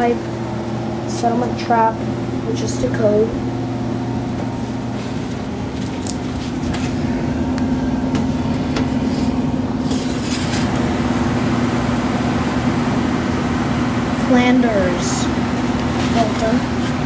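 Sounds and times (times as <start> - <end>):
furnace blower humming: 0.0 - 17.0.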